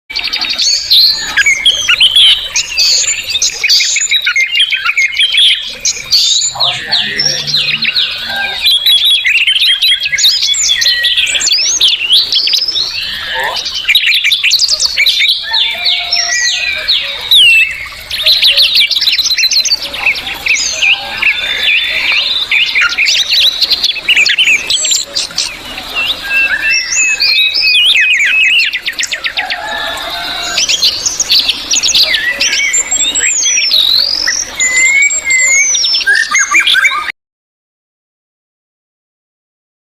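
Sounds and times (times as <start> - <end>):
songbirds chirping and singing: 0.1 - 37.1.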